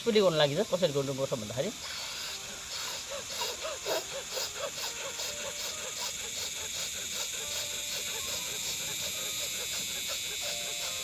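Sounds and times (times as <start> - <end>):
forceful breathing through nose: 1.9 - 11.0.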